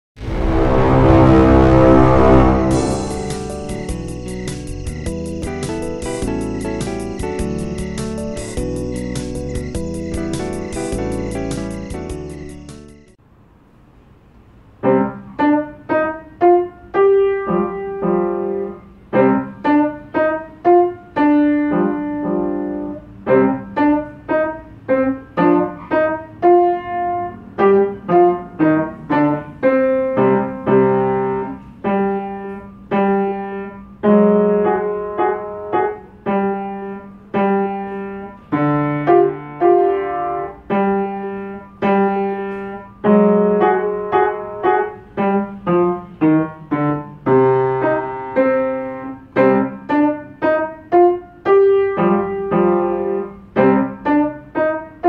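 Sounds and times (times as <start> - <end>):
piano notes and chords: 0.2 - 13.2, 14.7 - 55.0.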